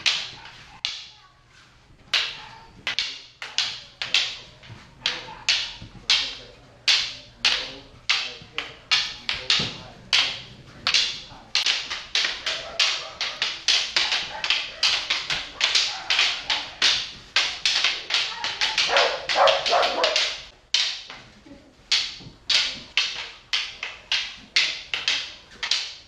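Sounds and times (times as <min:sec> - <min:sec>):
wooden sticks clacking together: 0:00.0 - 0:01.2, 0:02.0 - 0:26.0.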